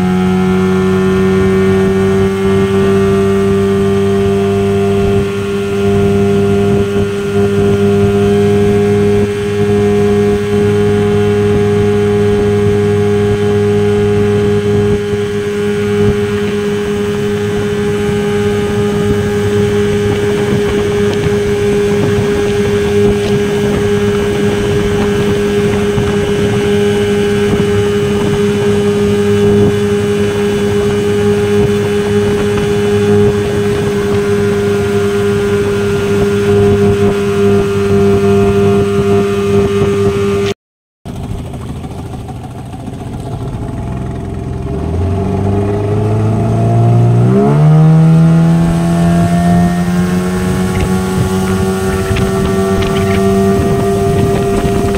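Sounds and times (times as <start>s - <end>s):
outboard motor running: 0.0s - 54.9s.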